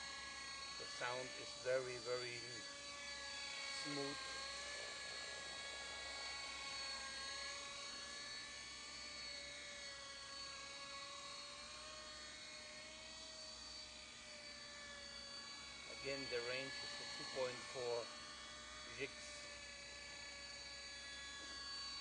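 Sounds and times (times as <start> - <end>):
toy helicopter rotors whining: 0.0 - 22.0.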